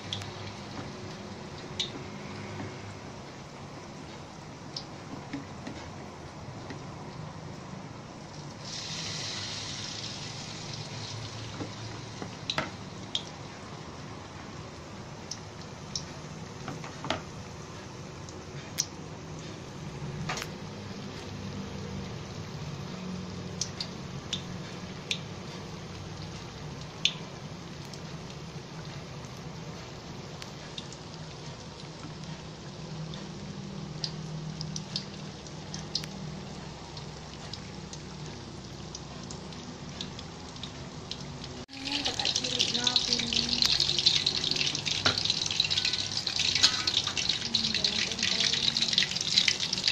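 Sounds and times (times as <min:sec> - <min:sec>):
oil sizzling and bubbling: 0:00.0 - 0:49.9.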